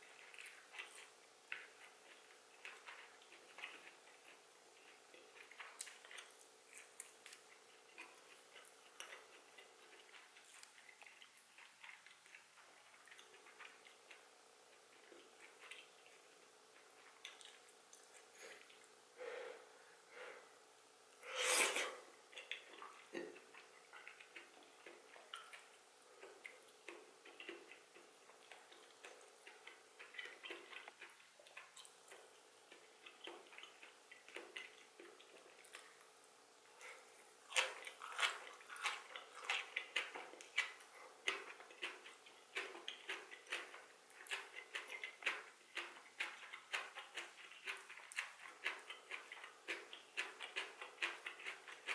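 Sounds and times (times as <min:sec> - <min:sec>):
wet chewing: 0:00.0 - 0:19.0, 0:21.8 - 0:51.9.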